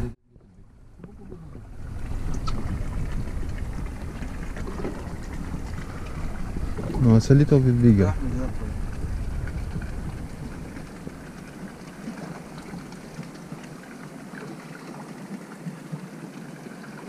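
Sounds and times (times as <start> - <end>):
wind rumble on microphone: 0.0 - 13.9
sea water fizzing hiss: 1.1 - 17.0.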